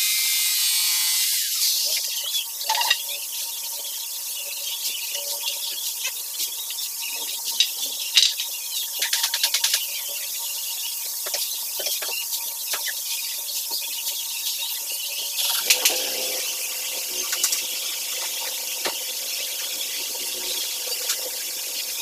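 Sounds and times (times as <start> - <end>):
birds chirping: 1.8 - 22.0.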